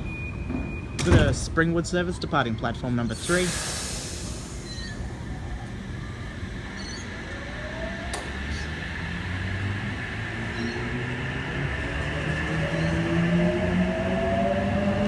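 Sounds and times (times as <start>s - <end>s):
electric train rumble: 2.9s - 15.0s.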